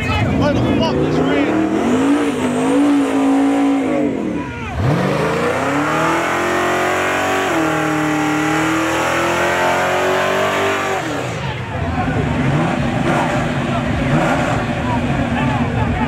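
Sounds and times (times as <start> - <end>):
car engine revving hard: 0.2 - 16.0.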